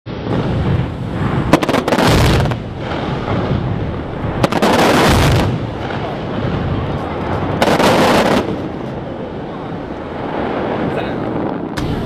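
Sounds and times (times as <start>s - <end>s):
fireworks bursting with sharp bangs: 0.1s - 12.0s
low rumble: 0.1s - 12.0s.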